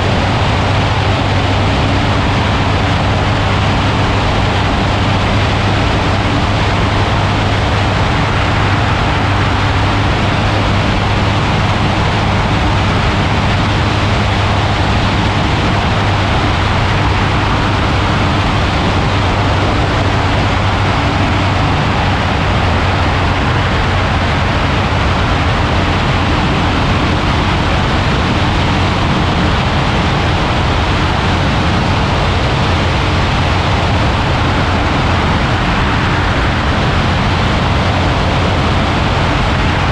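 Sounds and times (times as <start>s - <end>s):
aircraft engine running: 0.0s - 39.9s
wind rushing over microphone: 0.0s - 39.9s.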